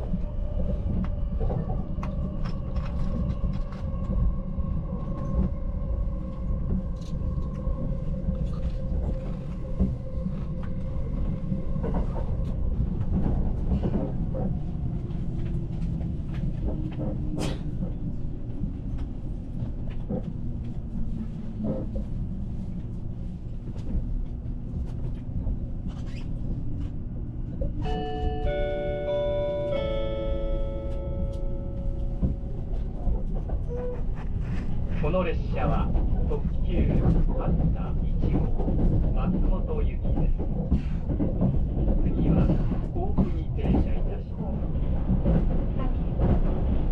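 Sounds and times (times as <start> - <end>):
train low rumble: 0.0 - 46.9.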